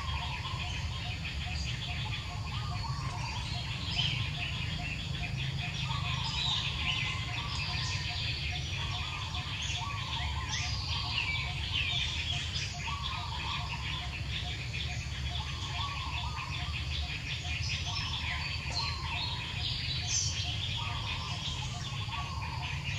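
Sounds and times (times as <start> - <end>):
birds chirping: 0.0 - 22.9
wavering lower bird call: 0.0 - 22.9.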